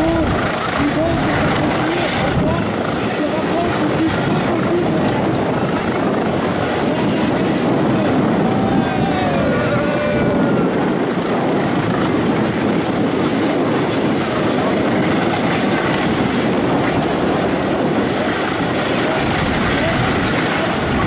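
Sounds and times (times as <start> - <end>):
helicopter rotor and turbine: 0.0 - 21.0
wind buffeting microphone: 0.0 - 21.0.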